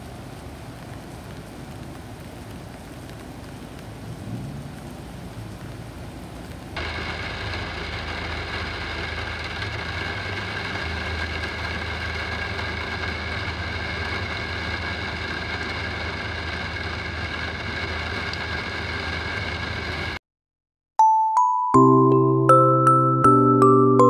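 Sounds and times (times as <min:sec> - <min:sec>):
low engine hum: 0:00.0 - 0:20.2
tyre hiss on wet road: 0:00.0 - 0:20.2
vehicles driving past on wet road: 0:00.0 - 0:20.2.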